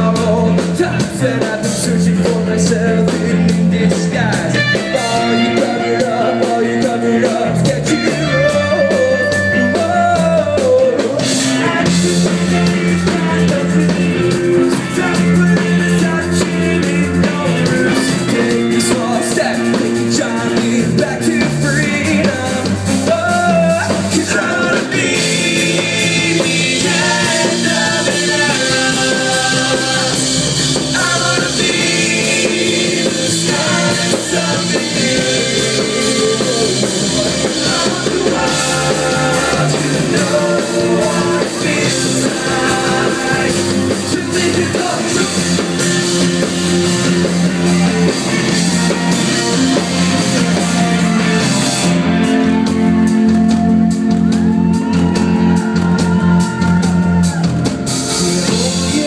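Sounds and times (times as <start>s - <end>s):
lead singer singing: 0.0s - 53.1s, 54.1s - 59.0s
drums: 0.0s - 59.0s
electric guitars: 0.0s - 59.0s
keyboard: 0.0s - 59.0s.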